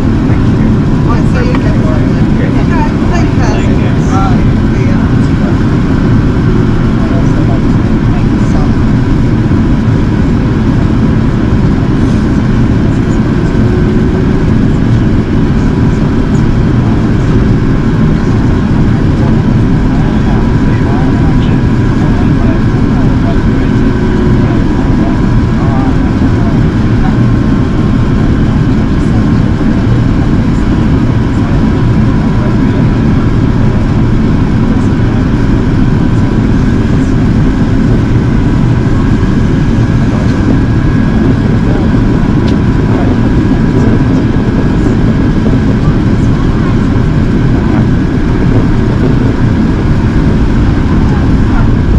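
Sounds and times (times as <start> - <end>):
airplane cabin rumble: 0.0 - 51.9
faint steady hum: 0.0 - 51.9
faint steady whine: 0.0 - 51.9
jet engine drone: 0.0 - 51.9.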